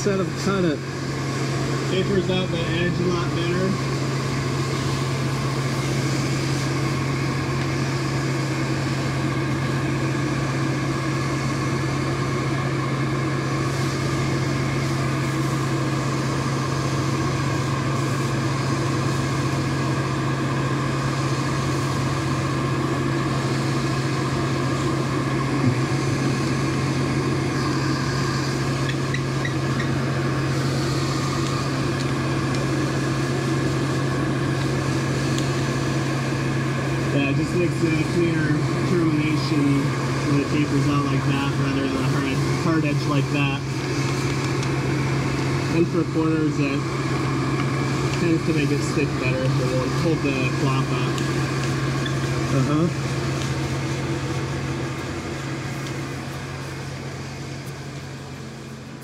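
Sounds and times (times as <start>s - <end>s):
air blower motor humming: 0.0s - 59.0s.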